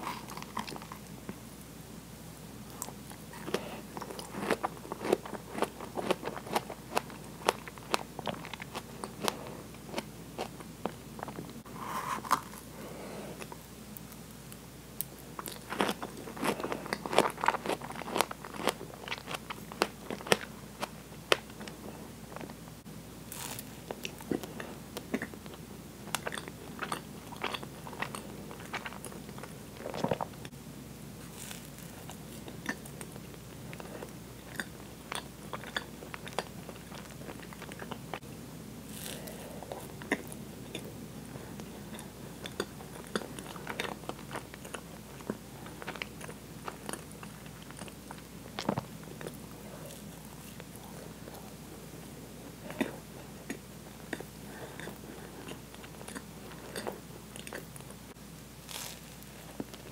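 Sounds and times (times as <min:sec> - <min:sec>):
close chewing: 0:00.0 - 0:01.2, 0:02.8 - 0:11.6, 0:15.4 - 0:22.6, 0:23.4 - 0:30.5, 0:31.3 - 0:38.2, 0:38.9 - 0:58.0.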